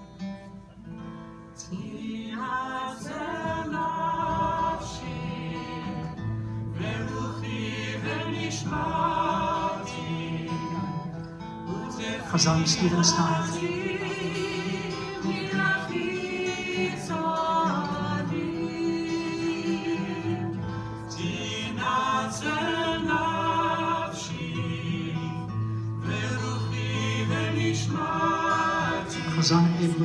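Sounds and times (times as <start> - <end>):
group of cantors singing: 1.6 - 30.0.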